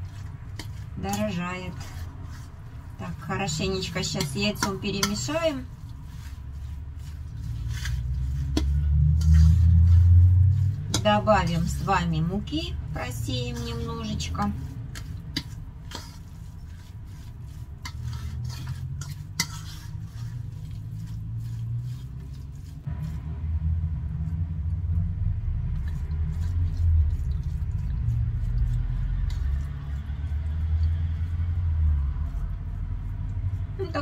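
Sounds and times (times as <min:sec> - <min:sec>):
fork scraping steel bowl: 0:00.0 - 0:23.3, 0:25.7 - 0:34.0
low rumble: 0:00.9 - 0:15.8, 0:20.0 - 0:34.0.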